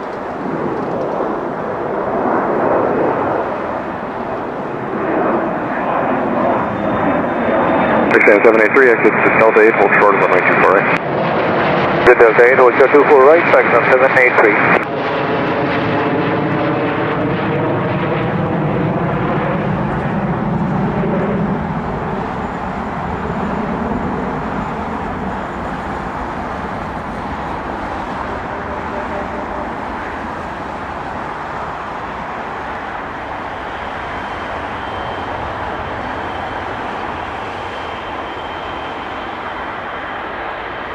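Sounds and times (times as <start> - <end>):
jet engine rushing rumble: 0.0 - 40.9
jet engines whining: 0.0 - 40.9.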